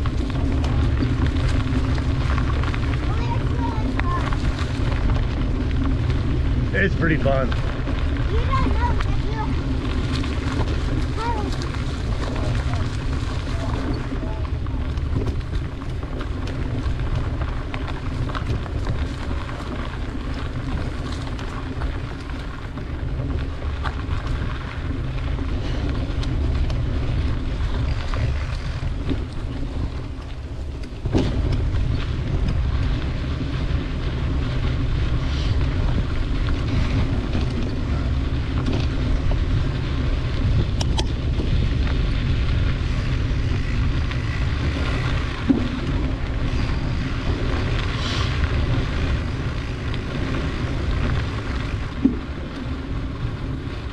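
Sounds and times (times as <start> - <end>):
tyres rumbling on dirt trail: 0.0 - 53.9
wind buffeting microphone: 0.0 - 53.9.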